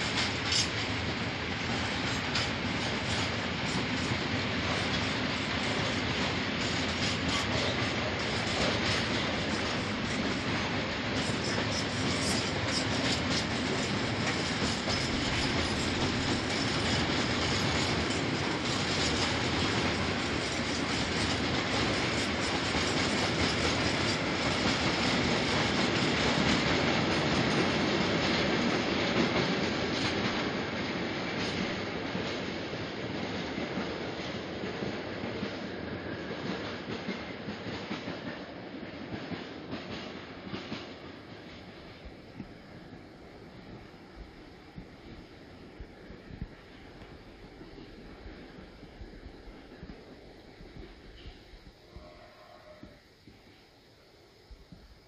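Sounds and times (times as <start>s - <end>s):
freight train wheels clattering: 0.0s - 53.3s.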